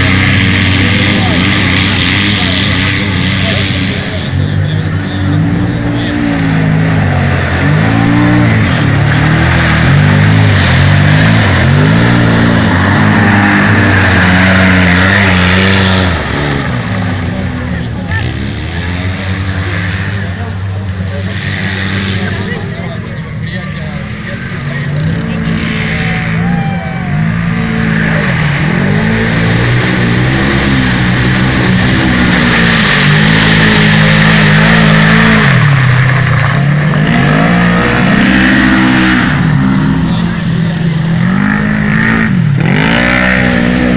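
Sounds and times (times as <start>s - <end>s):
quad bike engines revving: 0.0s - 43.9s.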